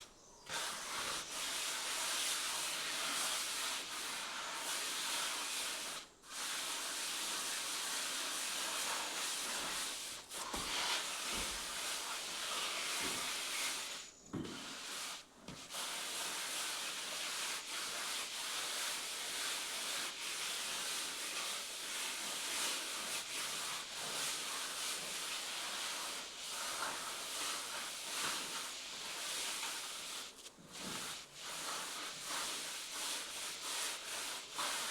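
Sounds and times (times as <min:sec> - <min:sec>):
plastering tool scraping cement: 0:00.4 - 0:34.9.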